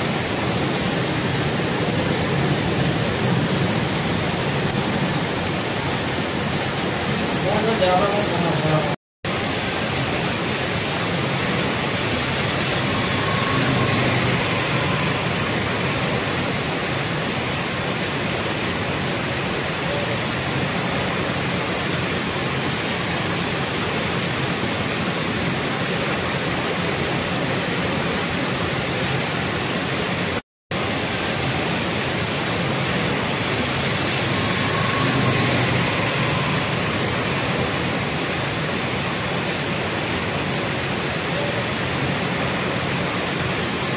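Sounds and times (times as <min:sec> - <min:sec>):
heavy rain on wet street: 0:00.0 - 0:43.9.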